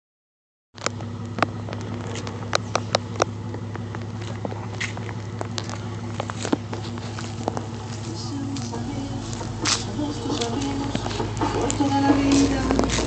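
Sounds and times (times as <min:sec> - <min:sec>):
car engine idling: 0:00.8 - 0:13.0.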